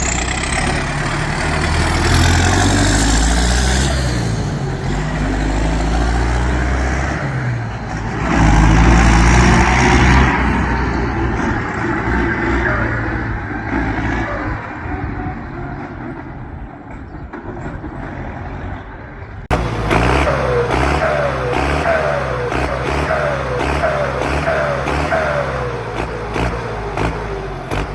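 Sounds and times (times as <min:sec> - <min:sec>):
tractor diesel engine revving: 0:00.0 - 0:16.6, 0:19.4 - 0:27.9.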